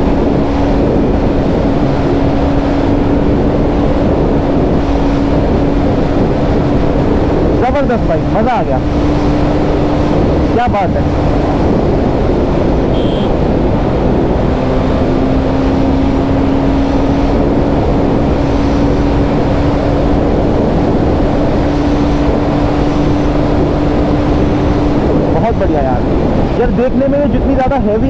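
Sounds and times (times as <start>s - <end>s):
motorcycle engine cruising: 0.0s - 28.0s
wind noise on microphone: 0.0s - 28.0s.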